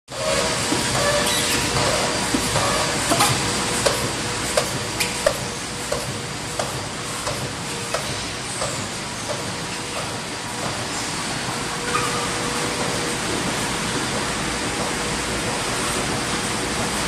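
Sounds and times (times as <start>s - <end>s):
printing machine running: 0.1s - 17.0s.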